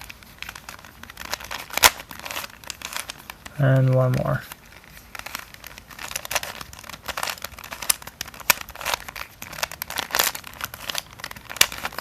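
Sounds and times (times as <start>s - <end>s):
puzzle cube clicking and rattling: 0.0s - 12.0s.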